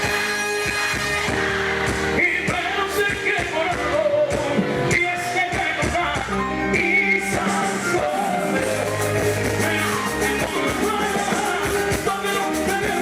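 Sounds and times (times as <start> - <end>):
live band with singing: 0.0 - 13.0.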